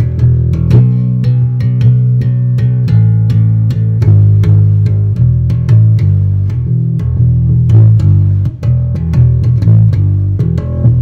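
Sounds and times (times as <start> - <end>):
bass guitar riff through amp: 0.0 - 11.0.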